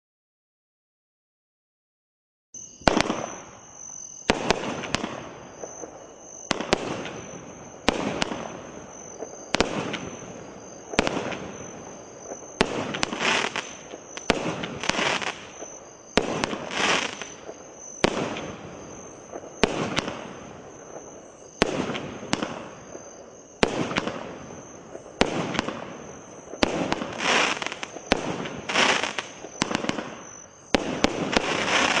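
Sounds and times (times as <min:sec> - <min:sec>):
fireworks shots: 0:02.8 - 0:32.0
rustling firework tail: 0:02.8 - 0:32.0.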